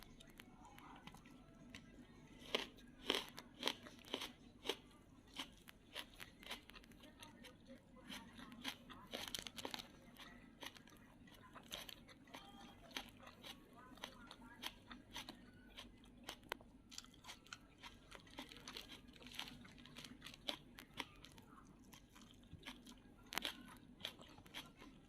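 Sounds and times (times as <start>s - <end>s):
chewing crunchy food: 0.0s - 25.0s.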